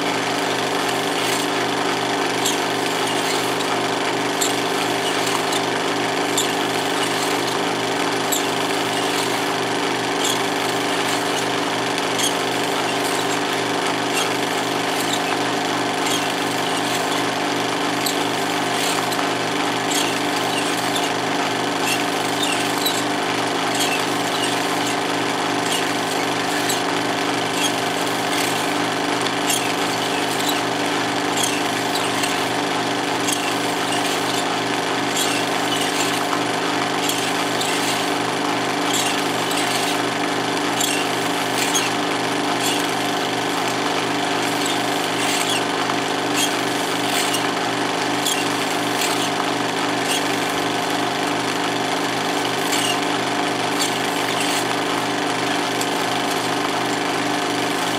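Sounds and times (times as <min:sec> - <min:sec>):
film projector clatter: 0:00.0 - 0:57.9.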